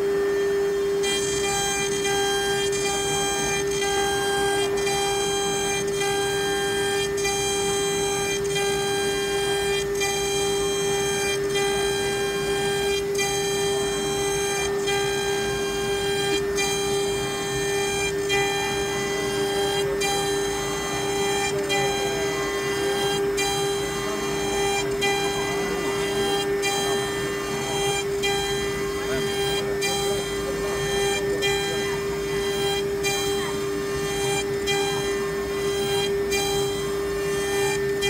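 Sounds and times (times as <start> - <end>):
higher cutting whines: 0.0 - 38.0
router spindle whine: 0.0 - 38.0.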